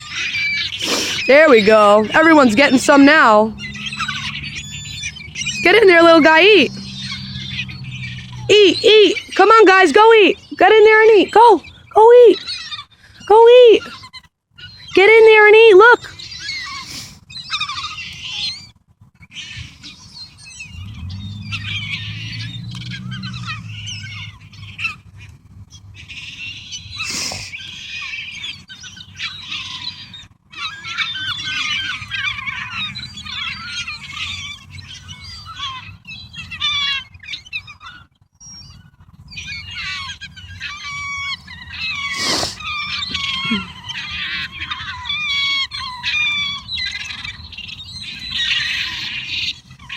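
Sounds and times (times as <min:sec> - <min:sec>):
gulls squawking and crying: 0:00.0 - 0:49.9.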